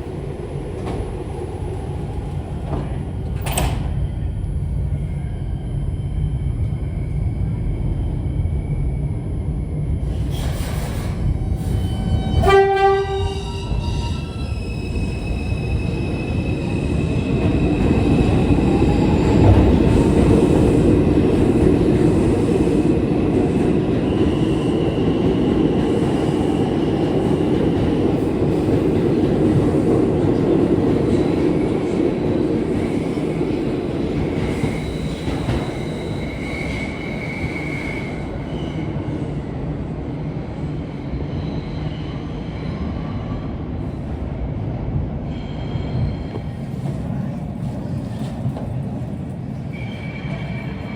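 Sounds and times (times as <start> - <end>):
train wheels rumbling on rail: 0.0 - 5.6, 6.3 - 50.9.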